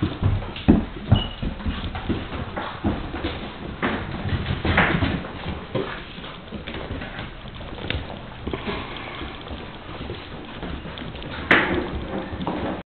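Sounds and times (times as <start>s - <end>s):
puppy scrambling on hardwood floor: 0.0s - 12.8s.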